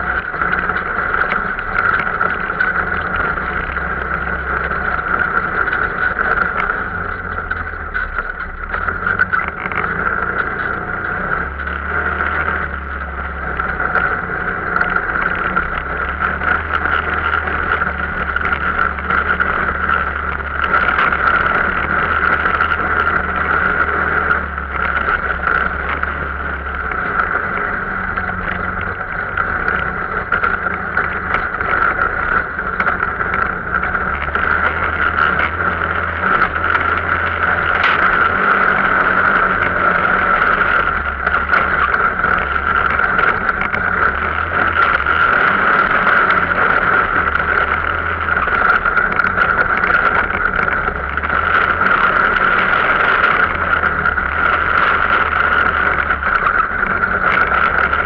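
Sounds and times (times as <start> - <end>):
off-road vehicle engine droning: 0.0 - 58.0.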